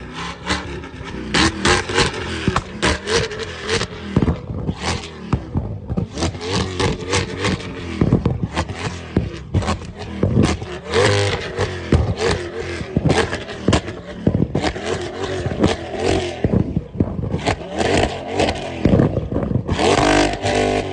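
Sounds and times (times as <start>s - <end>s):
car engine revving: 0.0s - 20.9s
exhaust pops and bangs: 0.5s - 20.9s.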